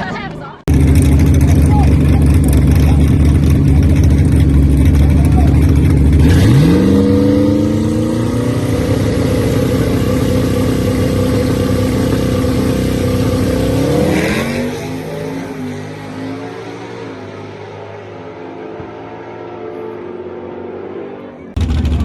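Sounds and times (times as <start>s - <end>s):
race car engine at high revs: 0.7s - 22.0s.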